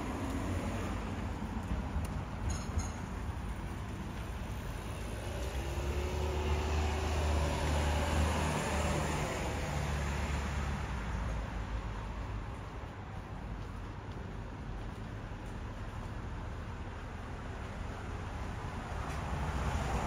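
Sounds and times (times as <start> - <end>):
road vehicle passing by: 0.0 - 20.0.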